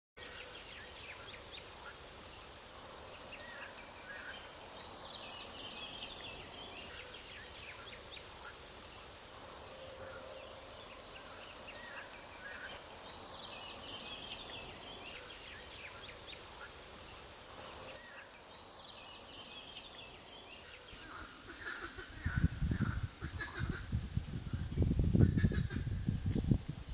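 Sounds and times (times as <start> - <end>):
faint outdoor hush: 0.2 - 25.2
songbirds chirping: 0.2 - 26.9.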